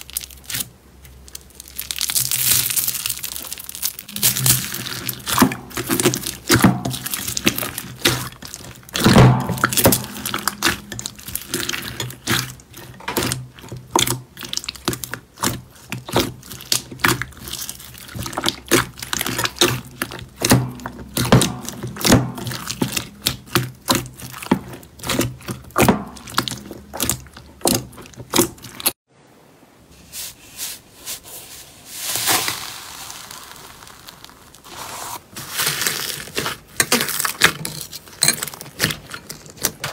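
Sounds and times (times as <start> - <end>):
soft squishing: 0.0 - 29.0, 29.8 - 39.9.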